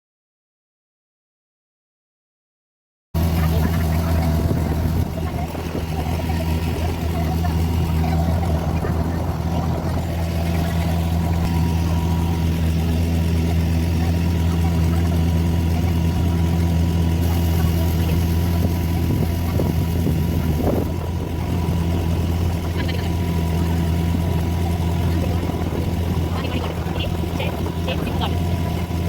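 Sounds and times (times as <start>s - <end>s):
motorboat engine running: 3.2s - 29.0s.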